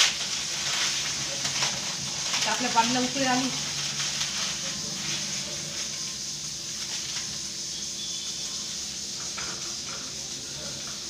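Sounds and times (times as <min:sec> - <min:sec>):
gas stove burners hissing: 0:00.0 - 0:11.0
water boiling in a pot: 0:00.0 - 0:11.0.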